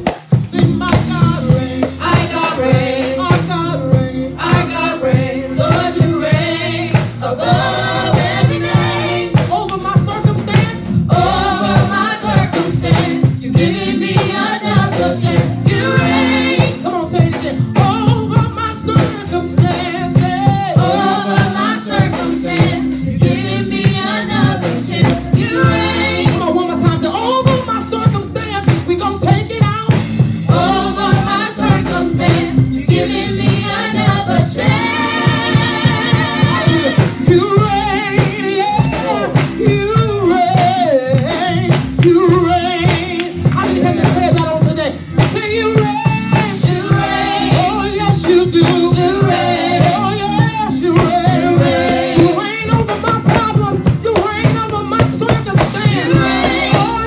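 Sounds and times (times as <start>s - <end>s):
group singing gospel song: 0.0s - 57.0s
instrumental accompaniment with beat: 0.0s - 57.0s.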